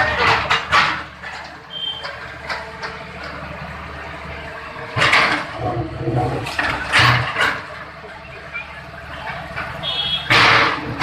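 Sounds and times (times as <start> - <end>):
excavator humming: 0.0 - 11.0.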